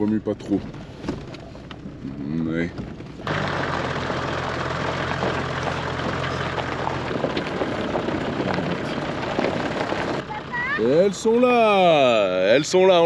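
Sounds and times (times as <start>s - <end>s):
low diesel engine hum: 0.0s - 13.0s
stones crackling under tyres: 0.0s - 13.0s.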